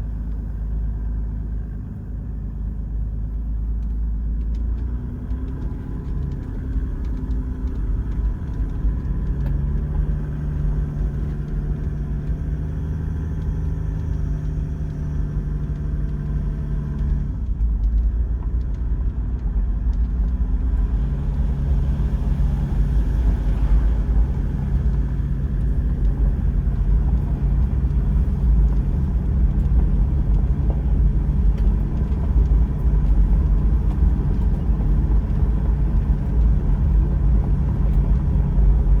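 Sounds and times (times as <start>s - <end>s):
diesel engine drone: 0.0s - 39.0s
road rumble: 0.0s - 39.0s.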